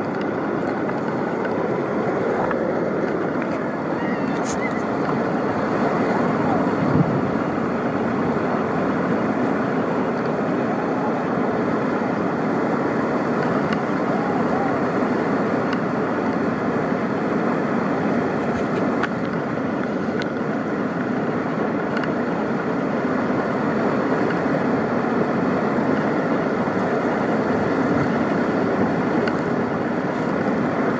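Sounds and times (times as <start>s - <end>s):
river rapid rushing: 0.0s - 30.9s.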